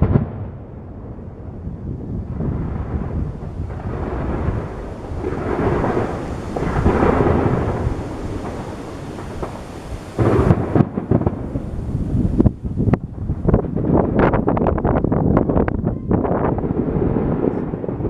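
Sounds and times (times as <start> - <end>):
fireworks booming rumble: 0.0 - 18.0
sharp firework bangs and crackles: 0.0 - 18.0.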